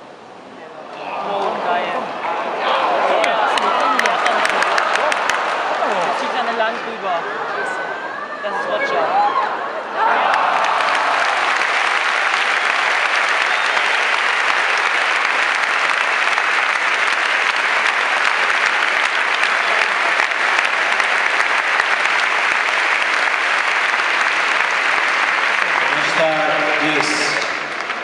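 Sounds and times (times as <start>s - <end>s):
crowd applauding: 2.6s - 7.1s, 10.0s - 28.0s.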